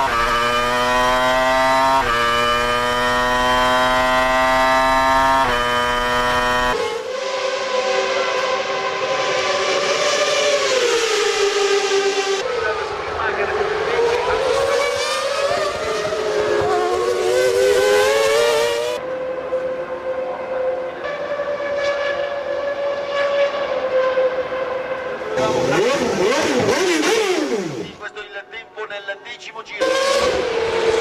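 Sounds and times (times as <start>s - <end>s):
racing car engines at high revs: 0.0s - 28.0s, 29.8s - 31.0s
racing cars sweeping past: 0.0s - 28.0s, 29.8s - 31.0s.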